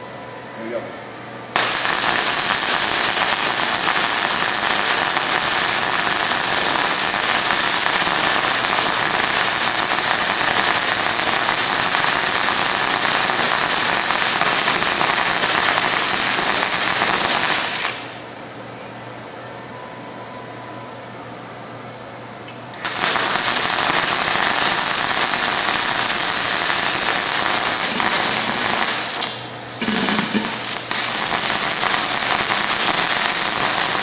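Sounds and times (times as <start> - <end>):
welder arc running: 1.5 - 18.4, 22.8 - 34.0.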